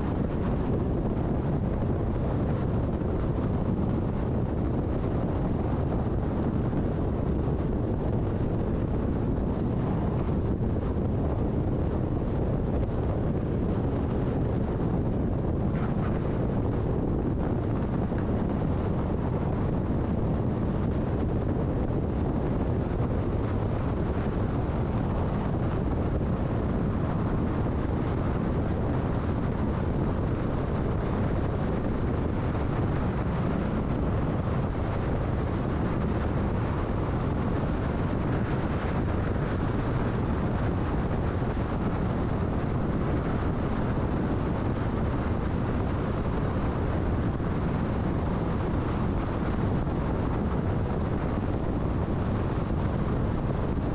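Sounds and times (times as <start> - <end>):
car tyre and wind noise: 0.0 - 53.9.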